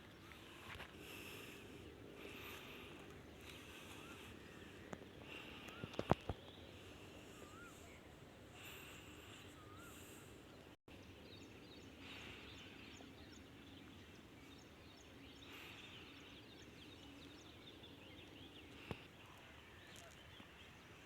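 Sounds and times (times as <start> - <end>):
bird chirps: 3.4 - 21.0.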